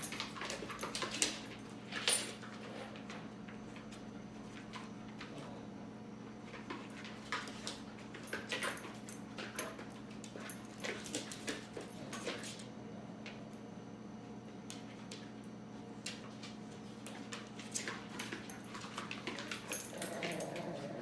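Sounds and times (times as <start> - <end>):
dogs scuffling and clicking: 0.0 - 13.6, 14.5 - 21.0
electrical hum: 0.0 - 21.0.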